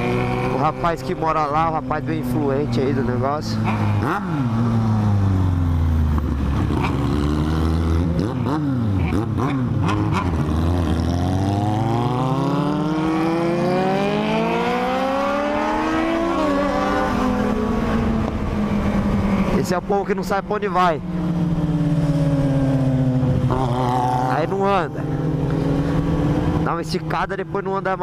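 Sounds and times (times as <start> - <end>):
motorcycle engines accelerating: 0.0 - 28.0.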